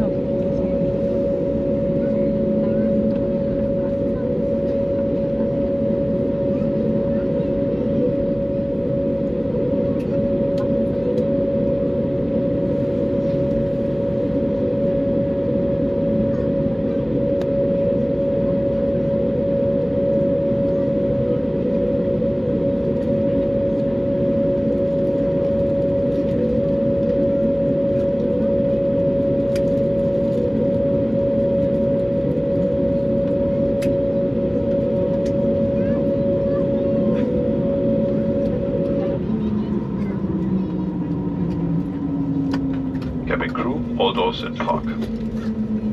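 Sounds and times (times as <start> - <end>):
aircraft cabin rumble: 0.0 - 45.9
steady hum: 0.0 - 45.9.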